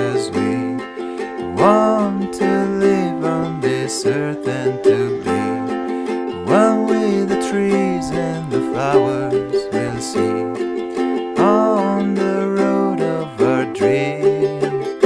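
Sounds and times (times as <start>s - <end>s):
acoustic song with plucked strings: 0.0s - 15.0s.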